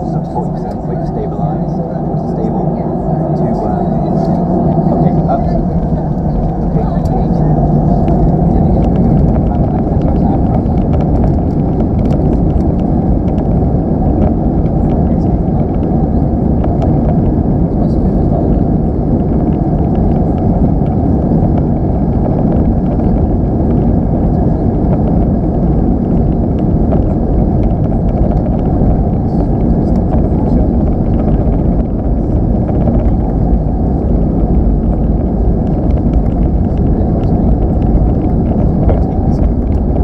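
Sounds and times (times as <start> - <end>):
jet engine cabin rumble: 0.0 - 40.0.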